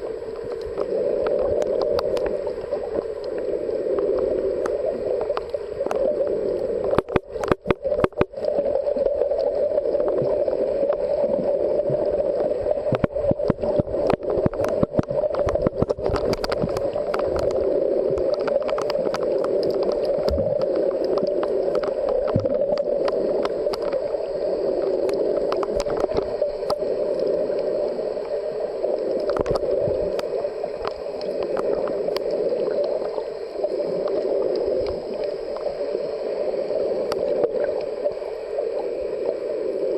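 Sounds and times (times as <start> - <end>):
muffled underwater wash: 0.0 - 39.9
underwater clicks and crackles: 0.0 - 39.9.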